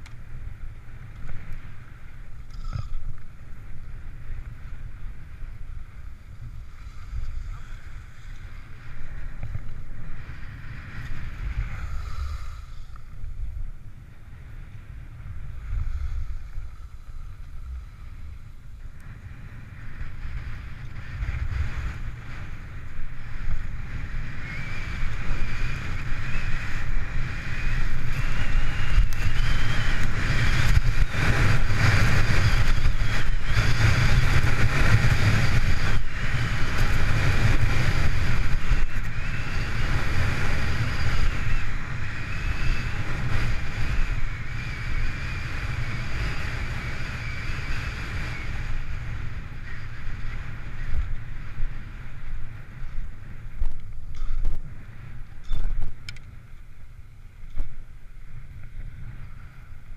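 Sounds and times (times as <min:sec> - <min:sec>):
wind on camera microphone: 0:00.0 - 0:59.9.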